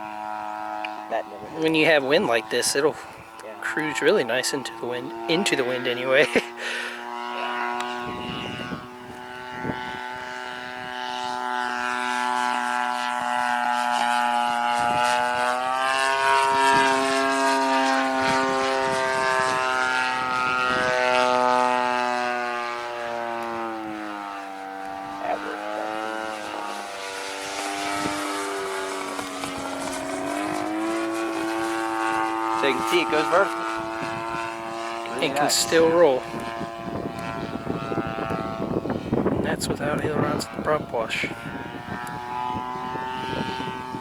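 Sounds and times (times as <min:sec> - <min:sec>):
model plane engine buzzing: 0:00.0 - 0:44.0.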